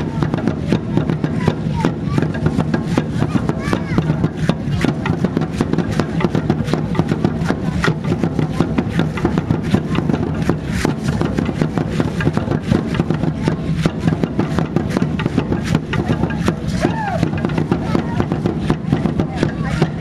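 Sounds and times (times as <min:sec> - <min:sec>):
large drums beating: 0:00.0 - 0:20.0.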